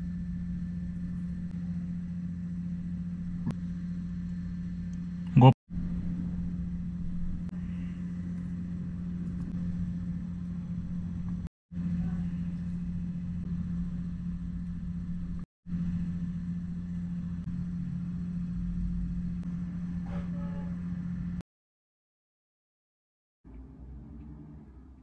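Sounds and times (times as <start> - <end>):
low machine hum with rumble: 0.0 - 21.4, 23.5 - 25.0.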